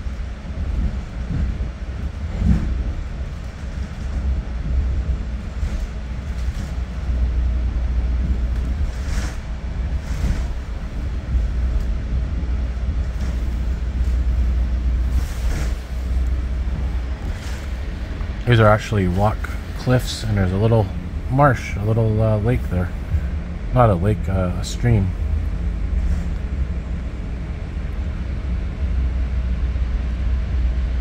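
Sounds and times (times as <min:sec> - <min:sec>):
train coach rumbling on track: 0:00.0 - 0:31.0.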